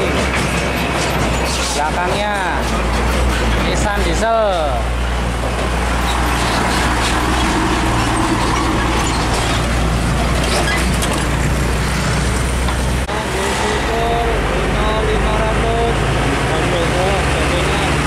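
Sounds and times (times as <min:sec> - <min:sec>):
road noise: 0:00.0 - 0:18.0
truck diesel engine droning: 0:00.0 - 0:18.0.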